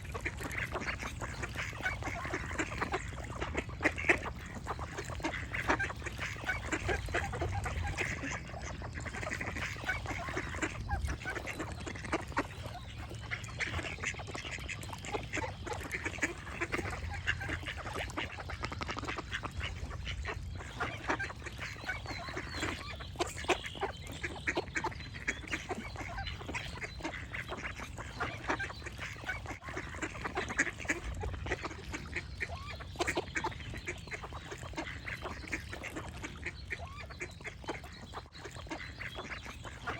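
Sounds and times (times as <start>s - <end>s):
ducks quacking: 0.0s - 39.9s
birds chirping: 0.5s - 39.9s.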